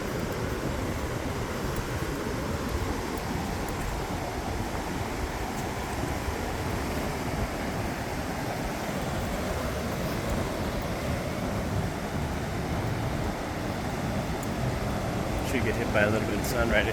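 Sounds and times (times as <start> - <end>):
ocean surf: 0.0 - 16.9.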